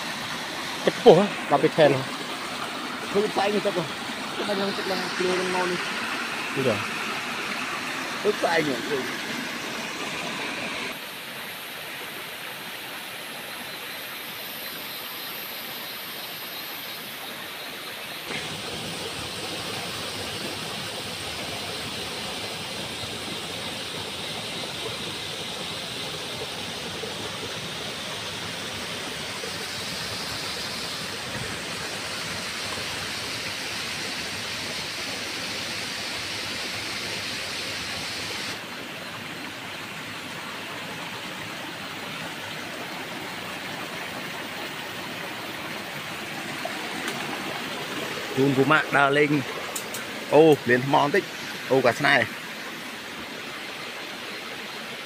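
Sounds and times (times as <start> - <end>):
stream water rushing over rocks: 0.0 - 55.0.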